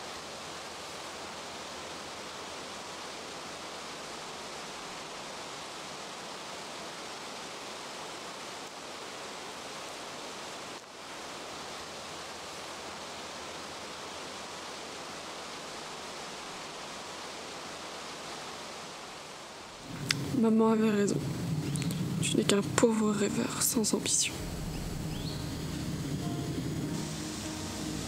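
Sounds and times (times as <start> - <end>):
steady rushing outdoor hiss: 0.0 - 28.0.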